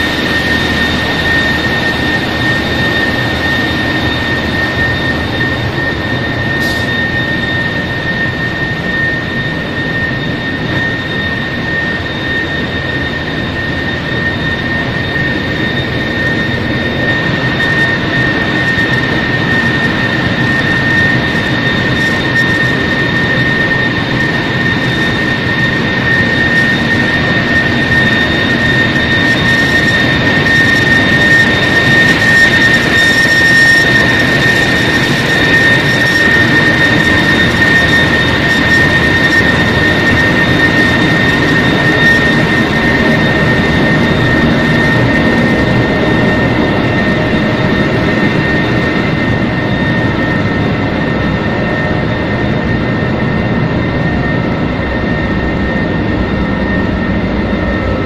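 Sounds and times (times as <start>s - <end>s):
high-pitched machine whine: 0.0s - 58.0s.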